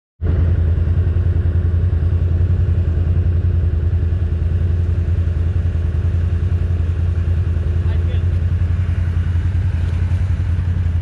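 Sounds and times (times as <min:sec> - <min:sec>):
atv engine running: 0:00.2 - 0:11.0.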